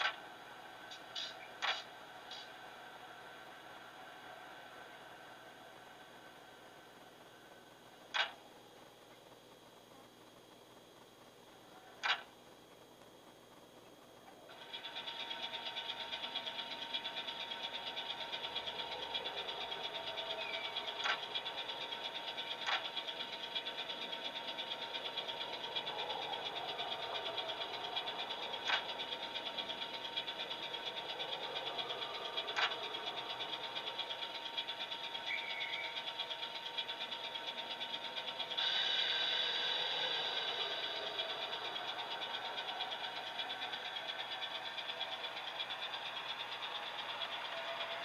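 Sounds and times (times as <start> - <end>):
sharp clicks: 0.0 - 2.6, 8.0 - 8.4, 10.2 - 48.0
rhythmic mechanical running sound: 0.0 - 48.0.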